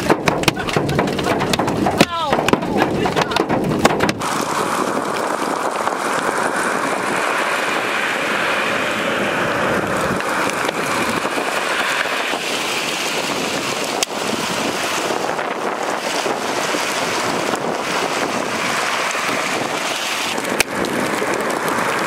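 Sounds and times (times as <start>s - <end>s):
vehicles hissing over hail-covered road: 0.0s - 22.0s.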